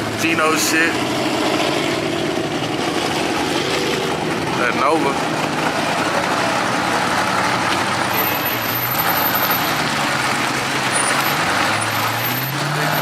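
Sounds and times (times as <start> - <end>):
car engine running low: 0.0 - 13.0
other engines idling: 0.0 - 13.0.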